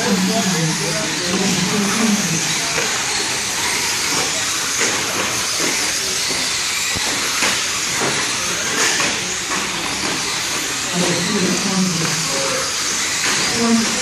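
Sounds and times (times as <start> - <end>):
rc trucks motors hissing: 0.0 - 14.0.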